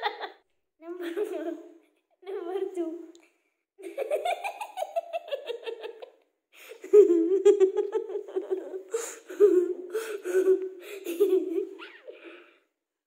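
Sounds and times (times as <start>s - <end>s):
boy giggling and laughing: 0.0s - 2.0s, 3.8s - 12.5s.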